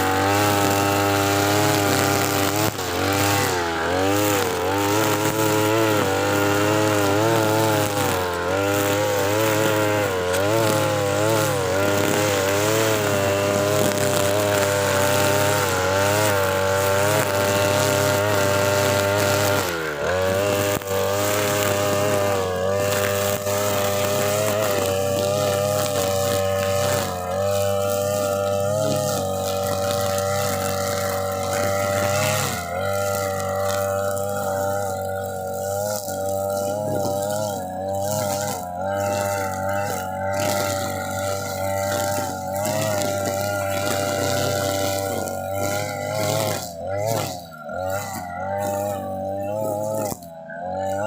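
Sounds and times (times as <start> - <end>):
brush cutter engine running: 0.0 - 51.0.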